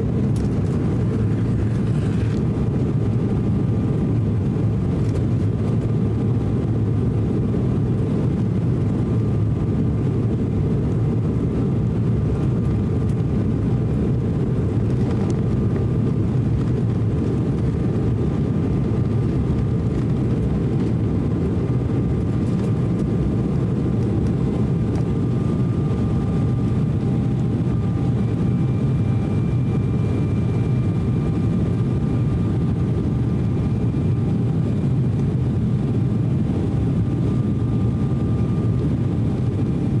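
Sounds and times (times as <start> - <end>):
airplane cabin rumble: 0.0 - 40.0
faint jet engine whine: 0.0 - 40.0.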